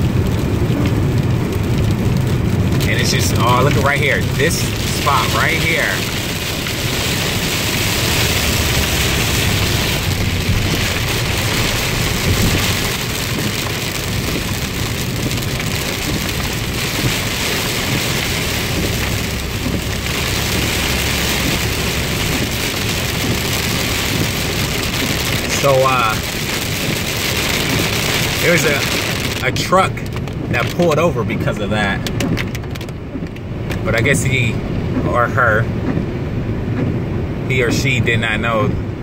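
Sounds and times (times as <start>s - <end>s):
car rumbling on road: 0.0s - 39.0s
heavy rain on car roof: 0.0s - 39.0s.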